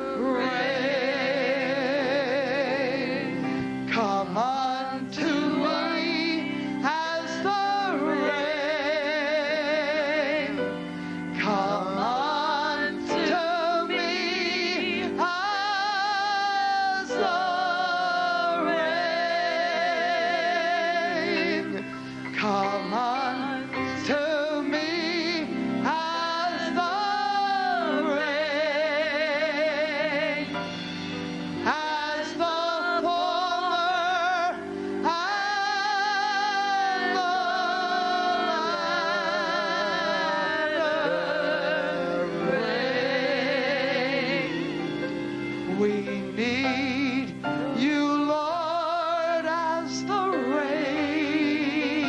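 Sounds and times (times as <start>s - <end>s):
person singing wordless notes: 0.0s - 52.0s
sustained instrumental chords: 0.0s - 52.0s.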